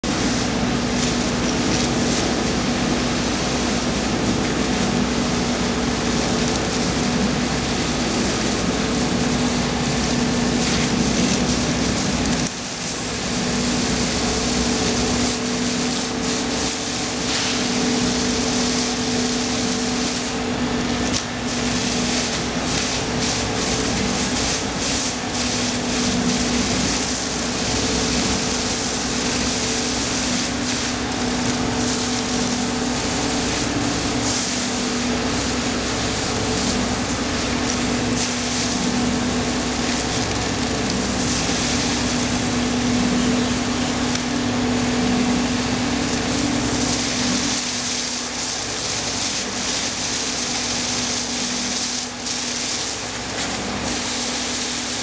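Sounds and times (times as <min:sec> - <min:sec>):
pump motor hum: 0:00.0 - 0:55.0
water jet hitting concrete: 0:00.0 - 0:55.0.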